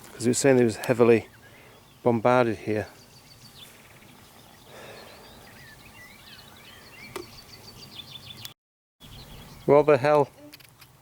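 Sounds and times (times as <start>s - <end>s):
birds chirping: 0.0s - 11.0s
outdoor background noise: 0.0s - 11.0s.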